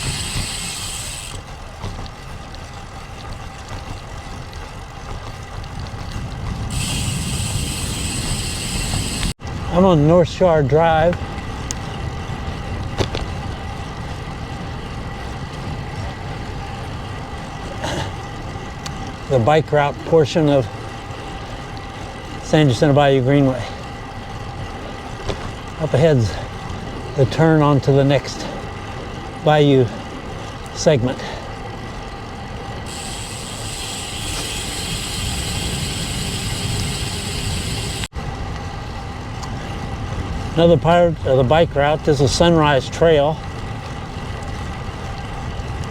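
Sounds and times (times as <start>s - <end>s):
bicycle tyre noise: 0.0s - 45.9s.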